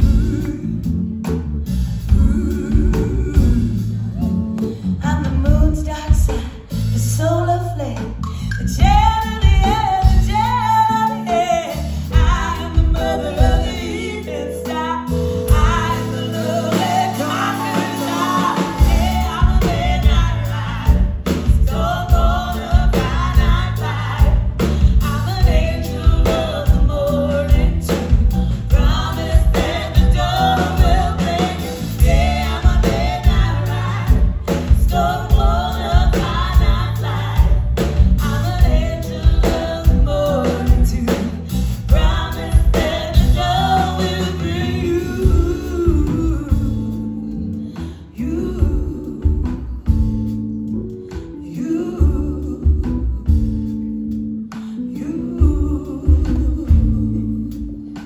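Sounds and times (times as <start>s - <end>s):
woman singing harmony: 0.0s - 1.0s, 2.0s - 58.0s
live band playing a song: 0.0s - 58.0s
woman singing lead vocal: 0.0s - 58.0s.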